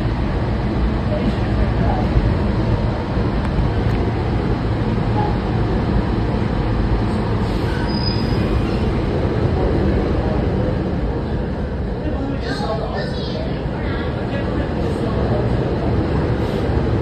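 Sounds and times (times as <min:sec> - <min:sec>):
subway train rumbling on rails: 0:00.0 - 0:17.0.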